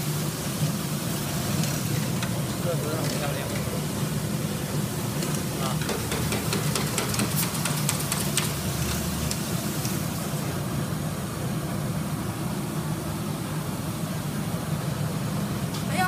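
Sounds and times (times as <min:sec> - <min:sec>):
coffee roaster cooling tray humming: 0:00.0 - 0:16.0.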